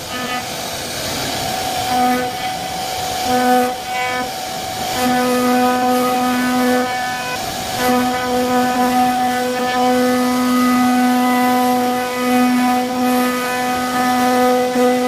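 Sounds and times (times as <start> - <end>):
low buzzy tone: 0.0 - 0.6, 1.5 - 15.0
machine steady whine: 0.0 - 15.0.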